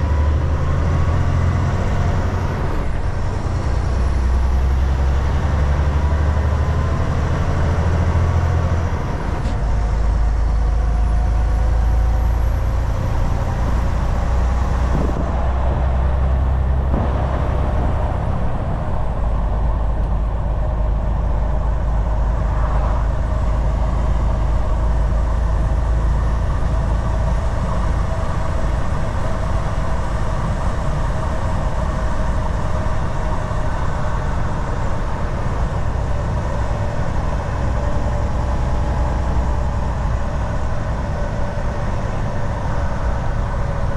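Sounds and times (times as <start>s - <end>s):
road and tyre noise: 0.0s - 43.9s
truck diesel engine running: 0.0s - 43.9s.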